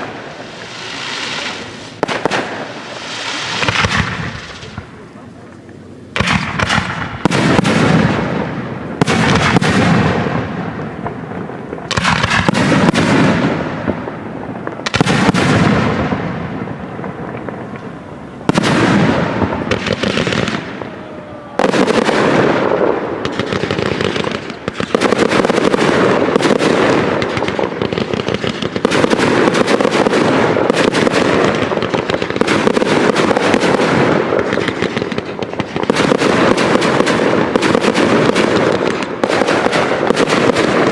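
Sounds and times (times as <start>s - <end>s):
firework shells bursting: 0.0s - 40.9s
fireworks crackling: 0.0s - 40.9s.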